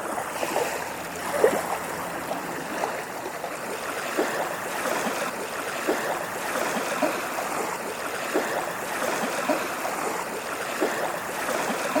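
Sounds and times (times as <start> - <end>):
water babbling and gurgling: 0.0 - 12.0.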